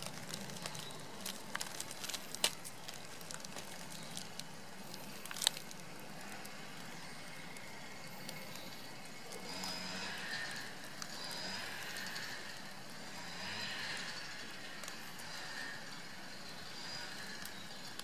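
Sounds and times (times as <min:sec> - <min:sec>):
small clicks and crackles: 0:00.0 - 0:18.0.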